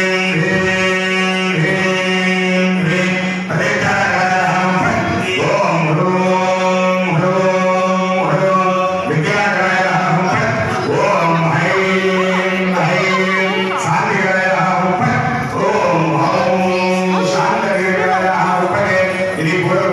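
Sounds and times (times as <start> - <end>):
priests chanting in unison: 0.0 - 19.9.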